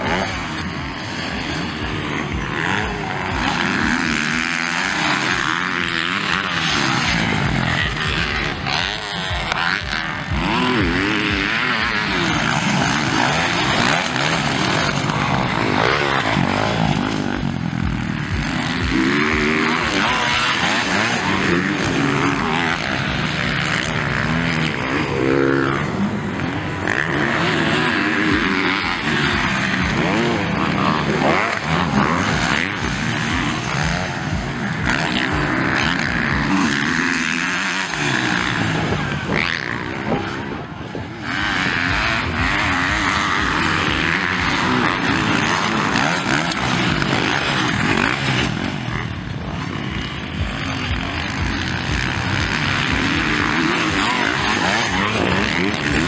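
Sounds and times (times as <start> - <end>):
motocross bike engines revving: 0.0 - 56.0.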